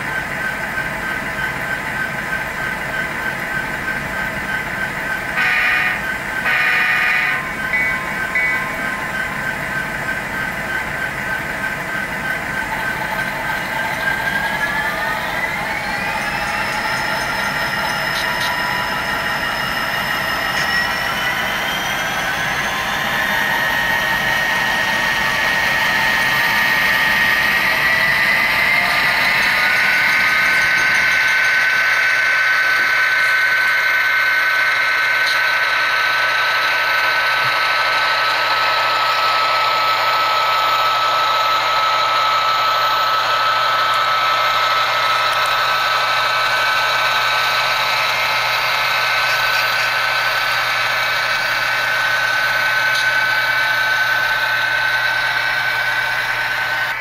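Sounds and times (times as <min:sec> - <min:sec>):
diesel engine sound from small speaker: 0:00.0 - 0:57.0
model motor and gear whine: 0:00.0 - 0:57.0.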